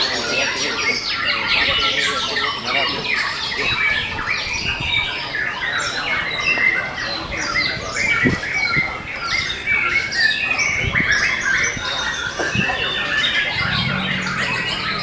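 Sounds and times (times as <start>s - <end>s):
canaries singing: 0.0s - 15.0s.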